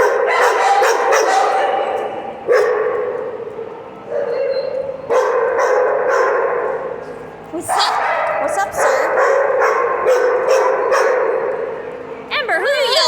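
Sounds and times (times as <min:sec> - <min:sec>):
dog barking cries: 0:00.0 - 0:07.0, 0:07.6 - 0:11.9.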